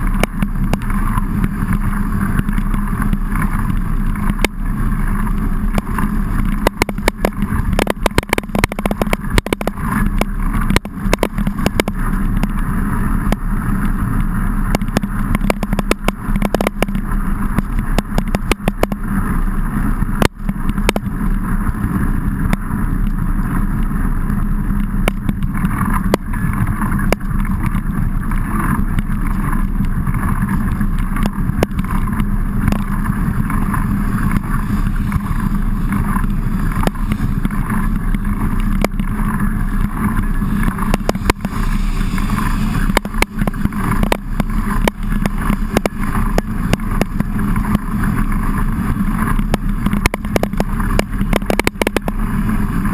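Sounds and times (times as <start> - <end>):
mountain bike riding rumble: 0.0 - 52.9.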